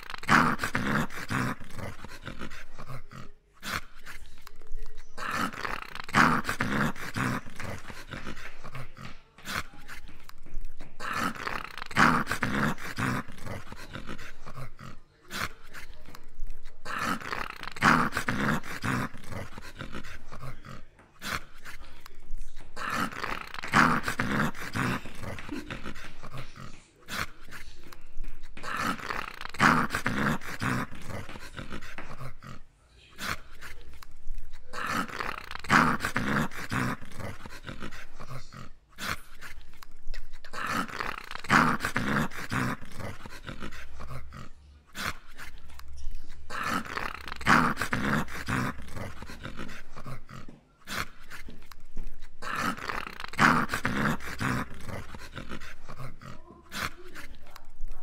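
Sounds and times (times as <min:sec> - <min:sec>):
dog breathing: 0:00.0 - 0:58.0
dog growling: 0:00.0 - 0:58.0.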